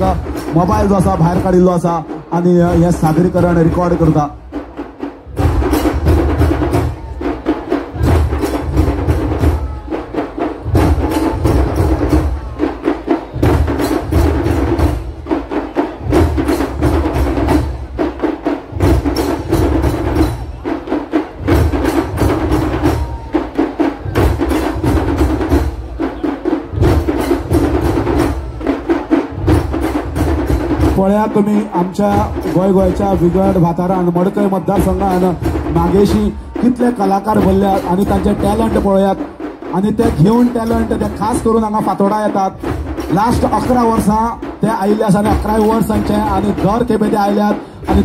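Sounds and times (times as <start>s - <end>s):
heavy low drum beats: 0.0s - 48.0s
rapid high drum strokes: 0.0s - 48.0s.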